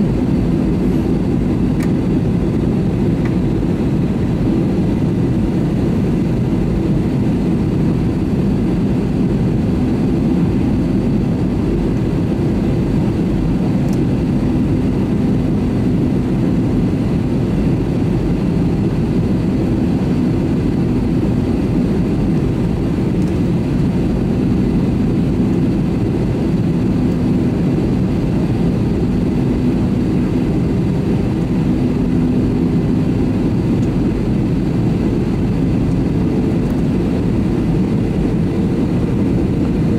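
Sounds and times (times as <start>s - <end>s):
faint engine hum: 0.0s - 39.9s
jet engines rumbling: 0.0s - 39.9s.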